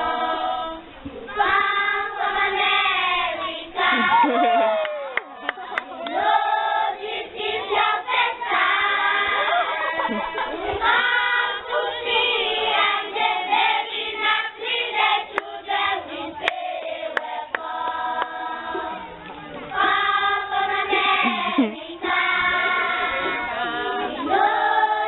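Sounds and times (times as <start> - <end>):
children singing together: 0.0 - 4.4, 6.0 - 25.0.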